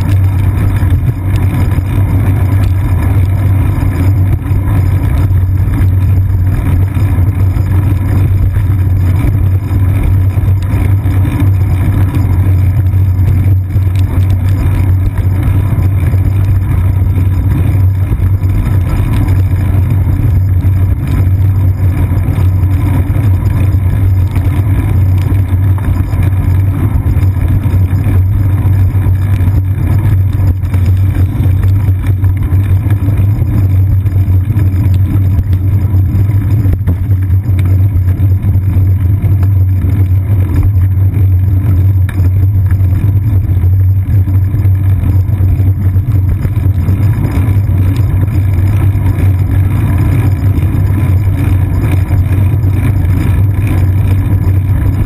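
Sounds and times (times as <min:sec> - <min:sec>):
bicycle rolling over wet pavement: 0:00.0 - 0:55.0
wind: 0:00.0 - 0:55.0.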